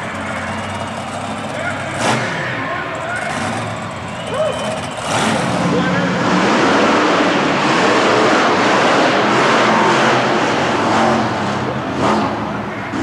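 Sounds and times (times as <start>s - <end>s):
loud truck engine running: 0.0s - 13.0s.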